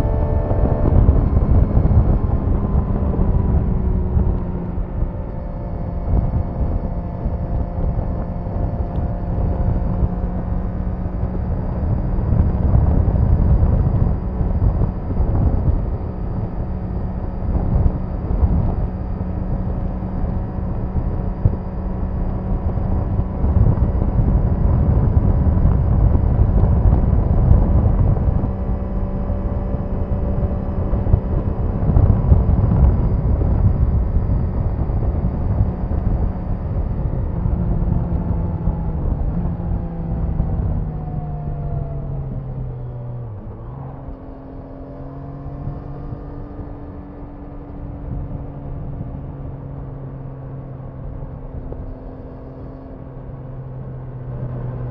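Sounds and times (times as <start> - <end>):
motorcycle engine running: 0.0 - 54.9
wind rumble on microphone: 0.0 - 54.9.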